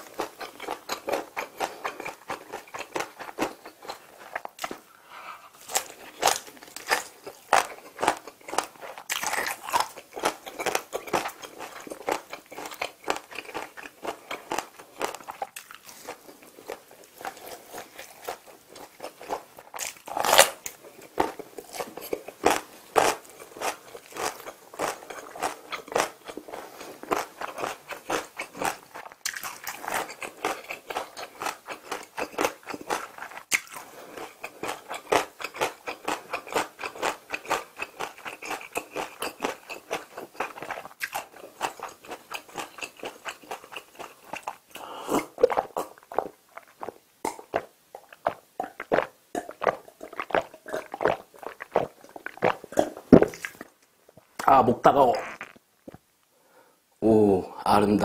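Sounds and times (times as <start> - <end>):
wet crunchy chewing: 0.0 - 4.8, 5.6 - 54.5, 55.1 - 56.0.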